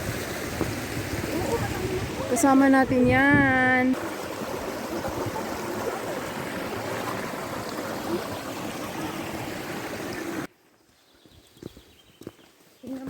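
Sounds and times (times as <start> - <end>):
stream water rushing: 0.0 - 10.5.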